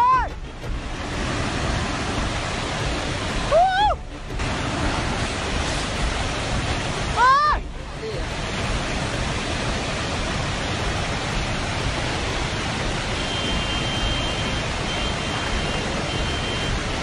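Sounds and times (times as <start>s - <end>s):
loud rushing noise: 0.0s - 17.0s.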